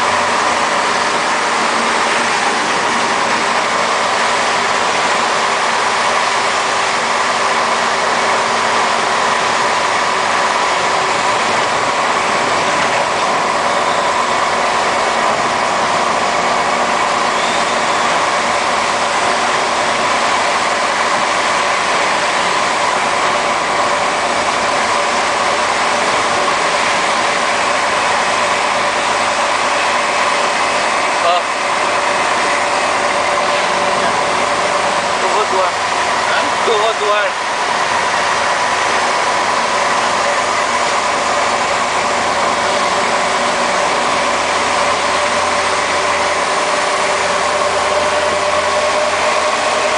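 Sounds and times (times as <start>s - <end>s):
diesel truck engine droning: 0.0s - 49.9s.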